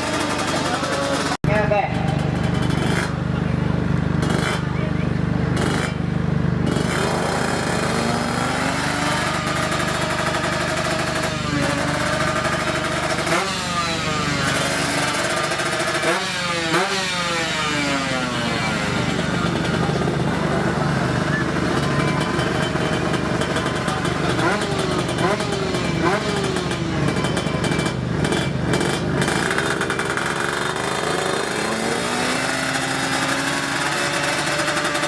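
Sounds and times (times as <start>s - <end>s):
motorcycle engine revving through gears: 0.0s - 35.0s.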